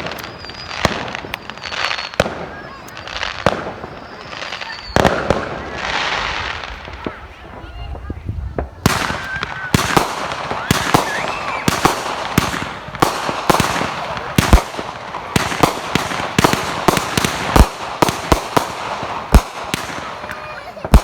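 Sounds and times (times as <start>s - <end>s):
fireworks crackling: 0.0s - 21.0s
fireworks sharp bangs: 0.0s - 21.0s
heavy fireworks booms: 0.0s - 21.0s.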